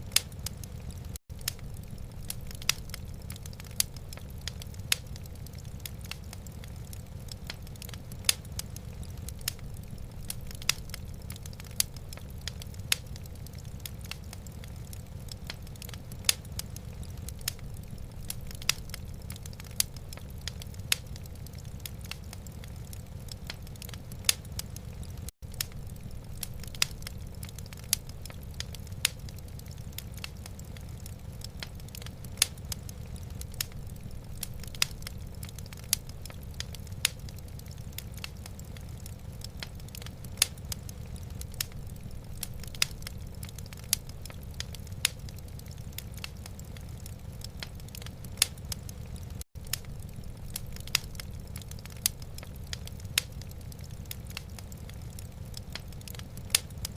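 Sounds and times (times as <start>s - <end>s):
fire crackling and popping: 0.0s - 56.9s
wood fire rumbling: 0.0s - 56.9s.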